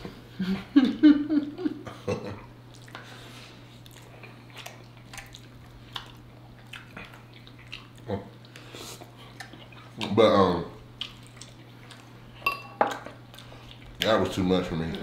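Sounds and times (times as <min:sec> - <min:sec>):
chewing and wet mouth sounds: 0:02.6 - 0:15.0.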